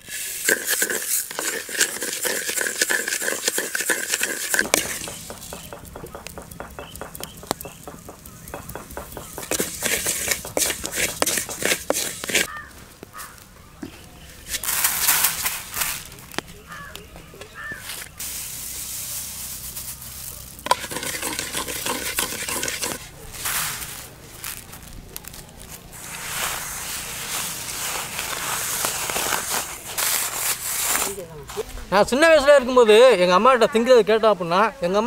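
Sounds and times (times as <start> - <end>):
hot grains crackling: 0.0 - 31.7
rice grains scraping in clay pot: 0.0 - 31.7.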